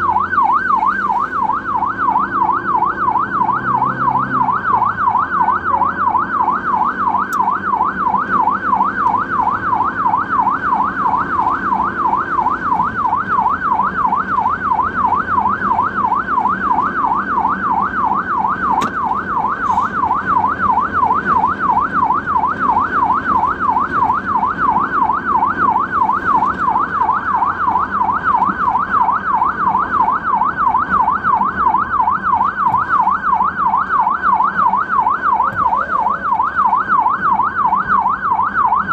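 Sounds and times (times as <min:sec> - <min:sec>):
ambulance siren wailing: 0:00.0 - 0:38.9
vehicle rumble on road: 0:00.0 - 0:38.9.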